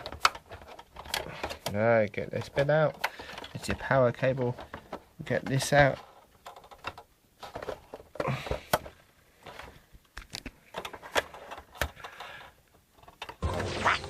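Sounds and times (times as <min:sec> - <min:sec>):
plastic and metal parts clicking: 0:00.0 - 0:13.4.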